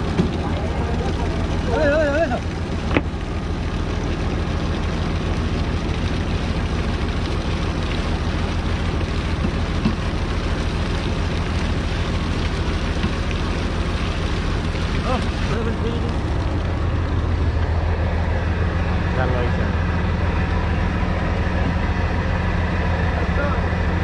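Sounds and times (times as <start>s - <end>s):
boat engine drone: 0.0s - 24.0s
wash of noise: 0.0s - 24.0s.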